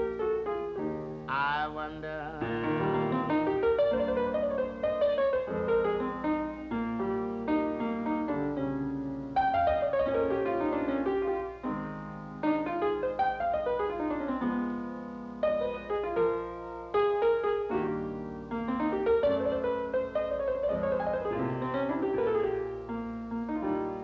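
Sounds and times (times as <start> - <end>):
solo piano: 0.0 - 24.0.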